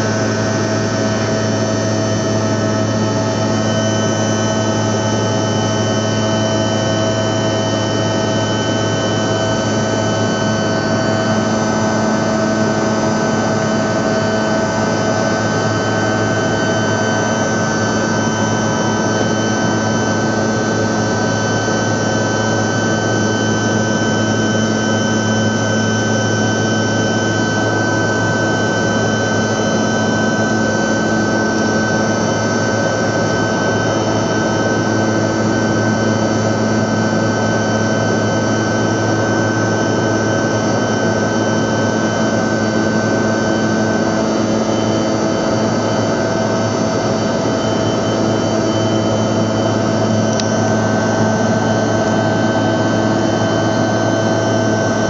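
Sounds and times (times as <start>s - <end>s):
jet engine drone and rushing air: 0.0s - 55.0s
steady whining tones: 0.0s - 55.0s.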